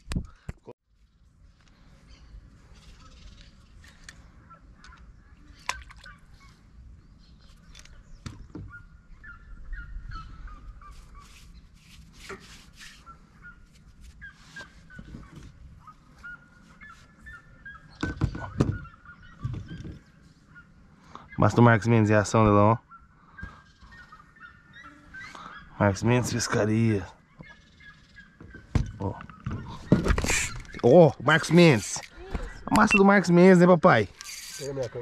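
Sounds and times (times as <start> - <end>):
birds calling in repeated notes: 0.2 - 35.0.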